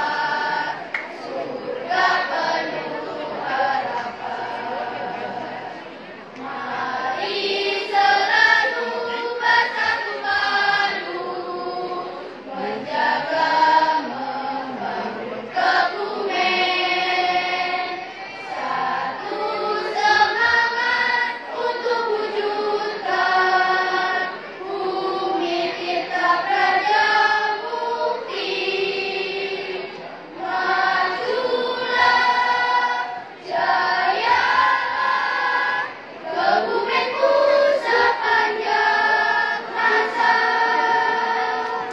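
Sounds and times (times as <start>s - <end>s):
choir singing in parts: 0.0s - 41.9s.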